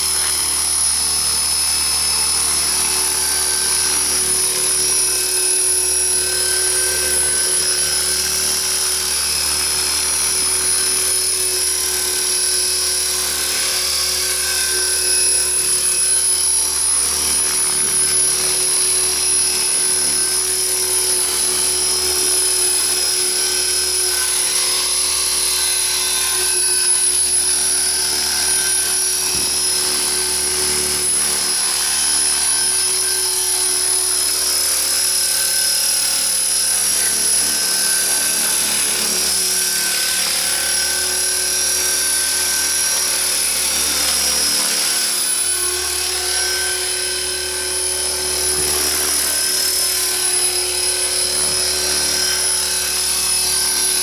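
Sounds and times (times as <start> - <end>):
model helicopter motor whine: 0.0 - 54.0.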